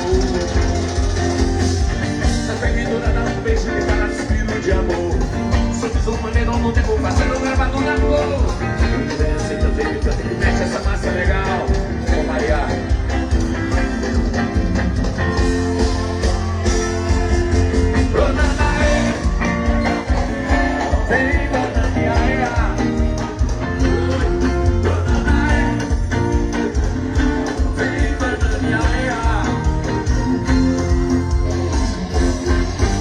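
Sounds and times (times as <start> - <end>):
live band music over sound system: 0.0 - 33.0
person singing: 2.2 - 33.0.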